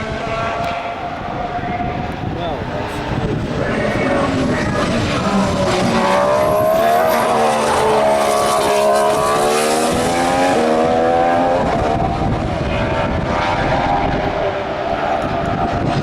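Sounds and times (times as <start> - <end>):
racing car engine passing: 0.0 - 16.0.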